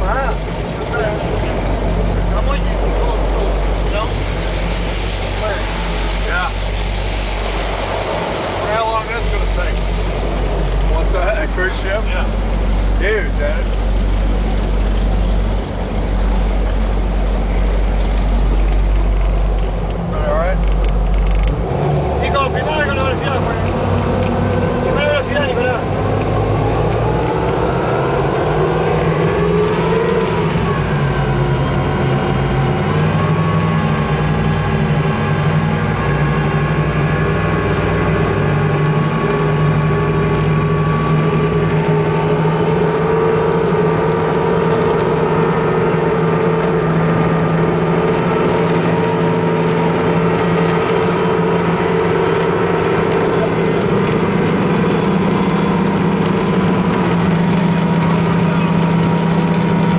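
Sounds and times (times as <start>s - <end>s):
powerboat engine running: 0.0s - 59.9s.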